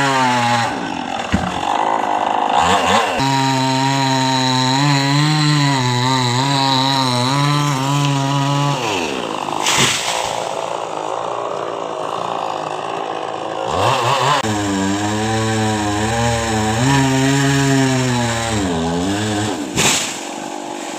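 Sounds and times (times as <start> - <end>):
chainsaw cutting a trunk: 0.0 - 20.9.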